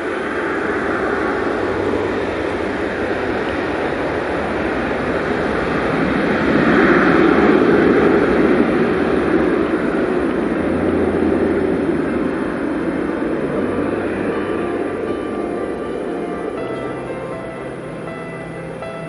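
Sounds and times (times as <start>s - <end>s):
jet airliner engines roaring: 0.0s - 19.0s.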